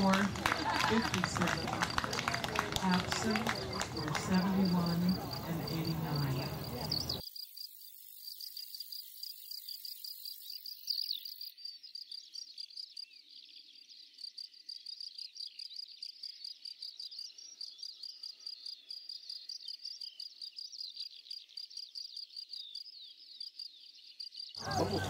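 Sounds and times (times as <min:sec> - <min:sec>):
crickets chirping: 0:00.1 - 0:25.0.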